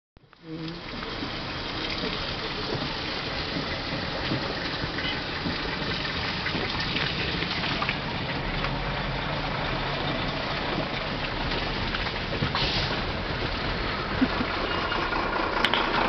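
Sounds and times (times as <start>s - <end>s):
low steady engine hum: 0.2s - 16.0s
road and tyre noise: 0.2s - 16.0s.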